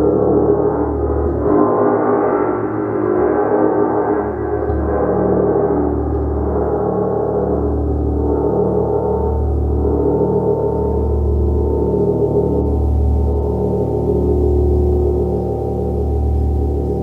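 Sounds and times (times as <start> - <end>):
deep low hum: 0.0 - 17.0
gong played continuously: 0.0 - 17.0.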